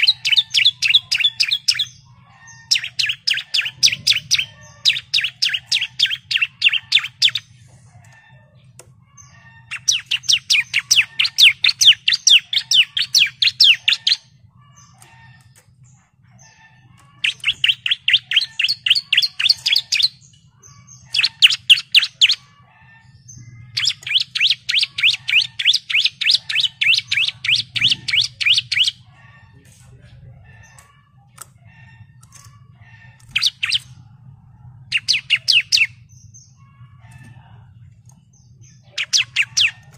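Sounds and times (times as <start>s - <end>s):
bird singing rapid high chirps: 0.0s - 39.9s
faint low hum: 0.0s - 39.9s.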